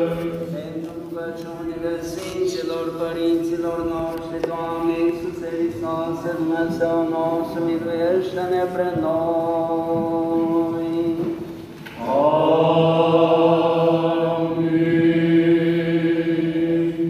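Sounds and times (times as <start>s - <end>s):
church chant voices: 0.0s - 17.0s.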